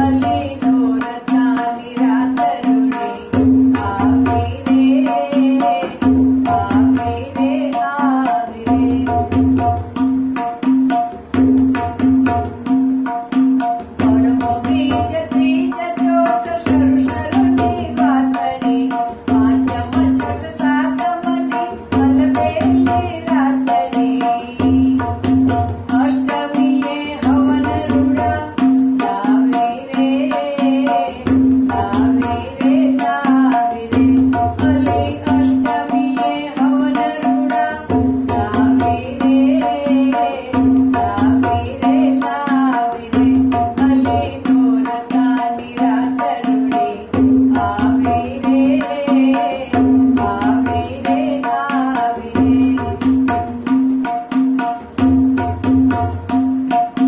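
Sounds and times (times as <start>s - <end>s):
elderly woman singing: 0.0s - 9.6s, 14.0s - 53.5s
tabla rhythm: 0.0s - 57.0s.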